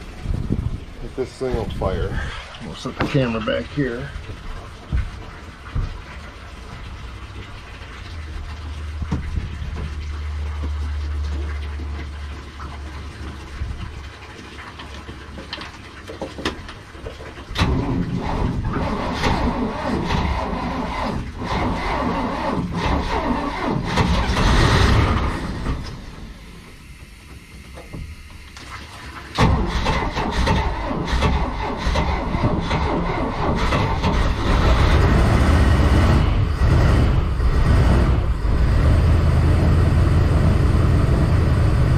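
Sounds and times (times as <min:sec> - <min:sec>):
boat engine starting and running: 0:00.0 - 0:41.9.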